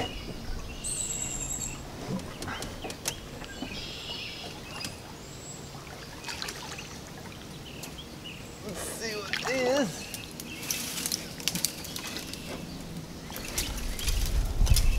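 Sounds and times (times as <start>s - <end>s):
small birds singing: 0.0s - 14.9s.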